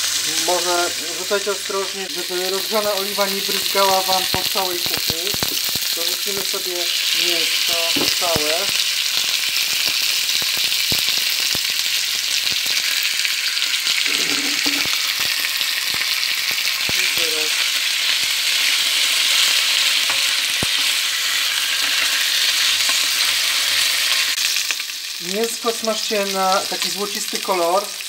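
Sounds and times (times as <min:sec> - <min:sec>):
meat sizzling in oil: 0:00.0 - 0:28.0.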